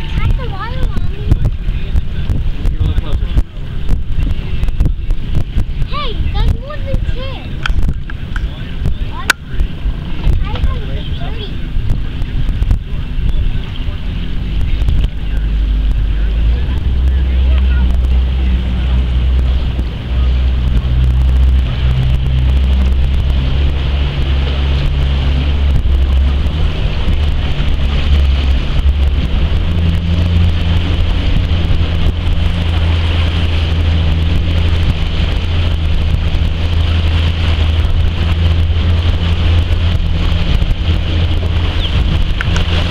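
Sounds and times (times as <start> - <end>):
boat motor running: 0.0 - 42.9
wind on microphone: 0.0 - 42.9.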